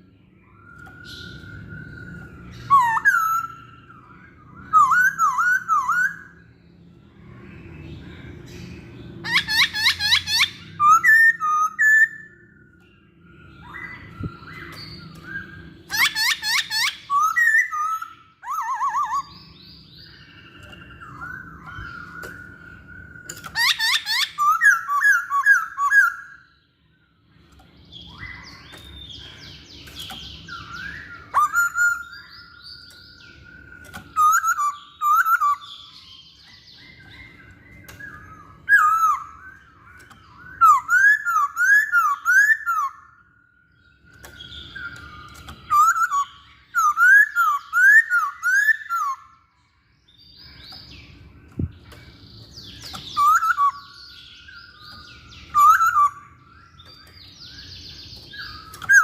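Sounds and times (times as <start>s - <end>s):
bird singing whistled phrases: 0.0s - 6.5s, 9.2s - 26.6s, 27.8s - 49.4s, 51.9s - 59.0s.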